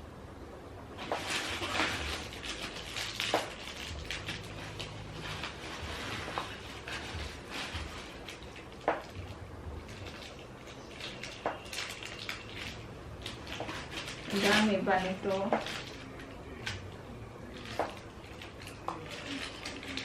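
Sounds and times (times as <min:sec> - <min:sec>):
plastic parts rustling: 0:01.0 - 0:20.0.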